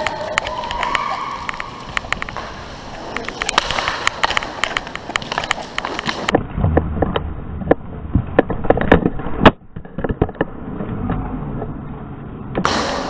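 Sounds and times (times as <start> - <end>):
inline skates rumbling on rink: 0.0 - 13.0
sticks and skates clacking: 0.0 - 13.0.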